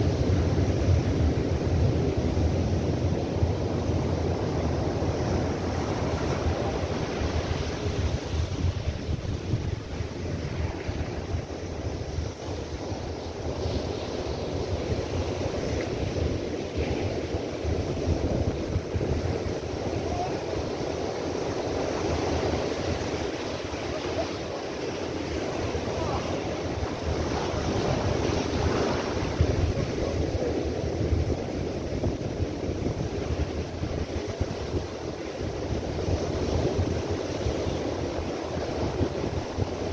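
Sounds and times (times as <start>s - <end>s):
surf breaking over rocks: 0.0s - 39.9s
wind buffeting microphone: 0.0s - 39.9s.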